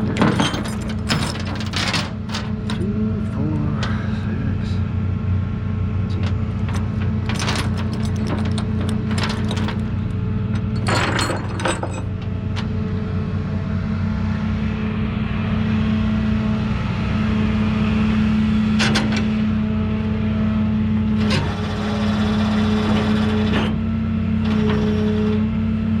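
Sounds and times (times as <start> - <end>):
vehicle engine running: 0.0 - 23.4.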